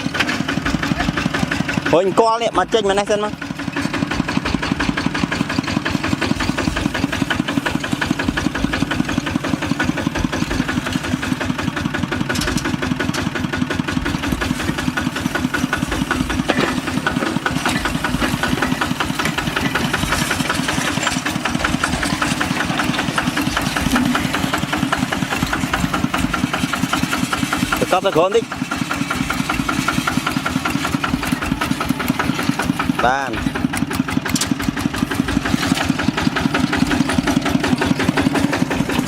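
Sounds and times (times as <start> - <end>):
diesel engine chugging: 0.0 - 39.0.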